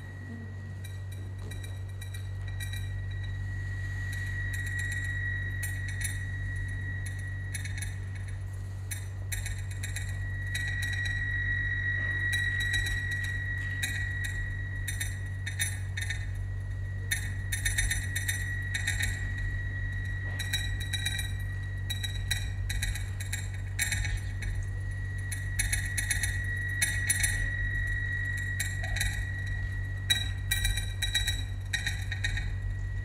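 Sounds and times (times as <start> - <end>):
deep steady drone: 0.0 - 33.0
thin high held tone: 0.0 - 33.0
glassy clicks and ticks: 0.8 - 11.4, 12.1 - 16.4, 17.1 - 33.0.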